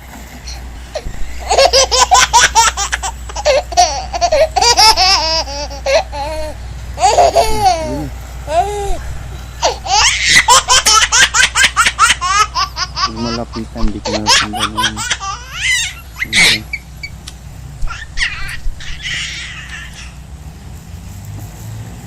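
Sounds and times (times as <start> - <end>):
high-pitched laughter: 1.0 - 16.8, 17.9 - 20.2.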